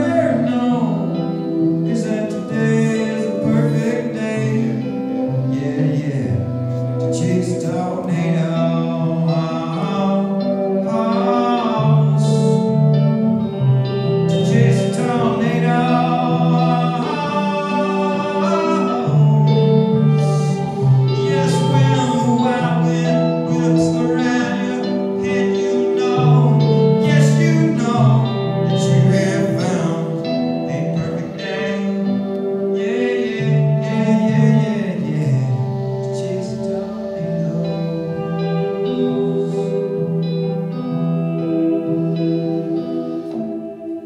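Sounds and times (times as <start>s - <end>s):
man singing: 0.0s - 40.8s
electric guitar: 0.0s - 44.0s.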